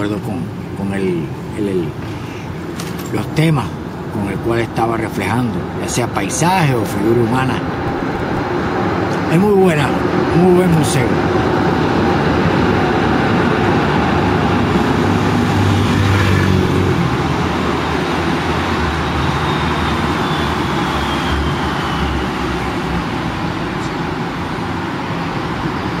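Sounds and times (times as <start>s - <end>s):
road noise from passing cars: 0.0s - 26.0s
vehicle engine running low: 0.0s - 26.0s.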